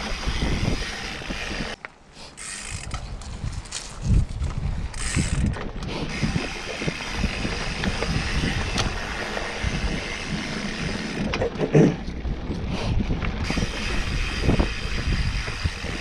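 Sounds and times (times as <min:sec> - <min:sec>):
wind on microphone: 0:00.0 - 0:01.8, 0:02.7 - 0:16.0
bike frame rattling: 0:00.0 - 0:16.0
tyres rumbling on dirt trail: 0:00.0 - 0:16.0.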